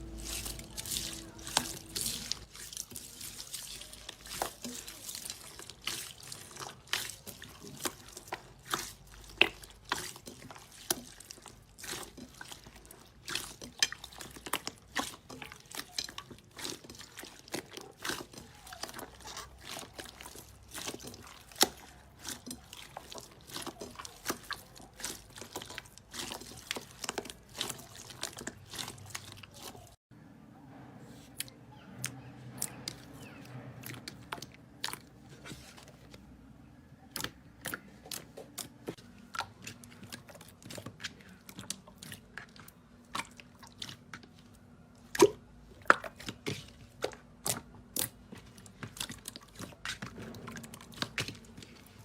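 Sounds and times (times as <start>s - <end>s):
slime squishing: 0.0s - 30.0s, 31.1s - 52.0s.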